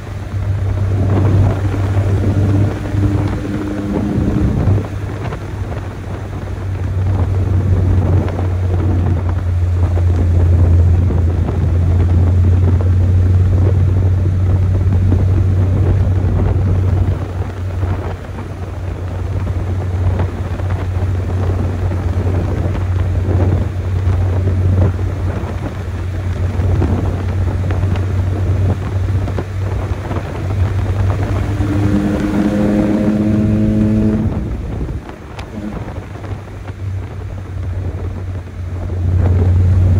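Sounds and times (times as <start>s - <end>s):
pickup engine exhaust drone: 0.0s - 39.9s.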